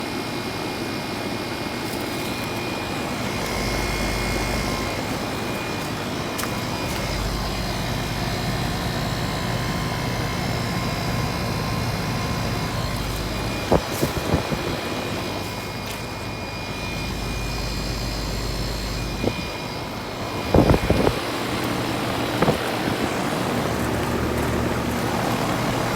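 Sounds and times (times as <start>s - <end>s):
compressor hum: 0.0s - 25.9s
outdoor fans whooshing: 0.0s - 25.9s.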